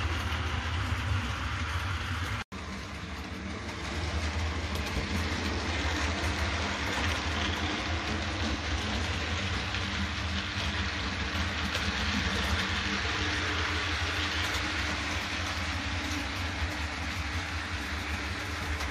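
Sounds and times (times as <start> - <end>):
model train motor hum: 0.0 - 18.9
wheels rattling on rails: 0.0 - 18.9.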